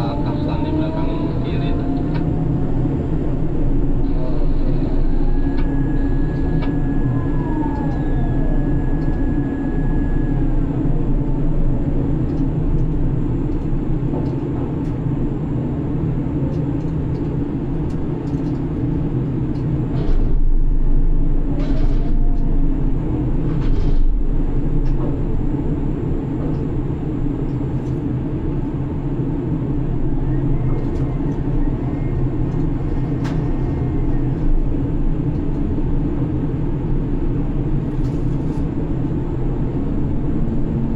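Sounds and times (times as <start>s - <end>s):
crane machinery drone: 0.0s - 40.9s
faint machinery whines: 0.0s - 40.9s.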